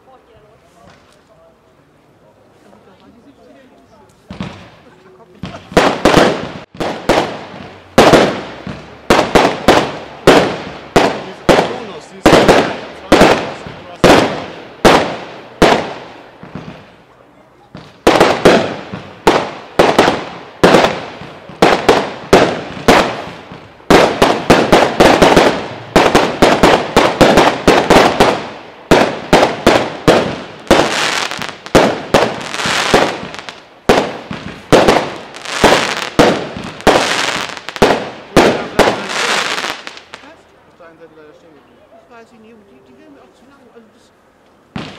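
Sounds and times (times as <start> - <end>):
fireworks bangs: 3.0 - 40.4, 44.7 - 44.9.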